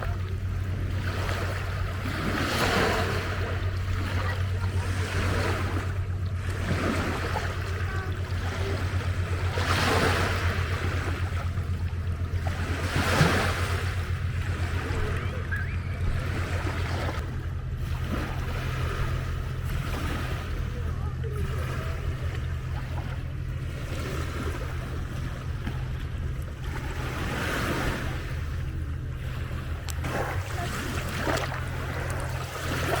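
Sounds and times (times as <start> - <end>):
low steady hum: 0.0 - 33.0
small waves washing onto beach: 0.0 - 33.0.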